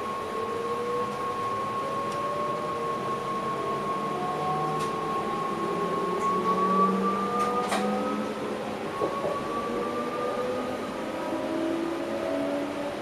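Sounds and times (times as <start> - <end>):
train running noise: 0.0 - 13.0
train traction motor whine: 0.0 - 13.0.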